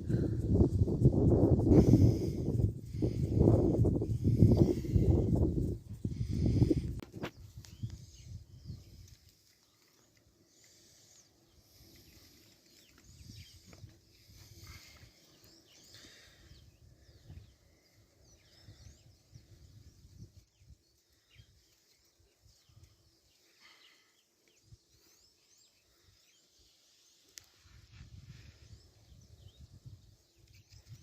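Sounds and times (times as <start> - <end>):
faint bird chirps: 4.1 - 31.0.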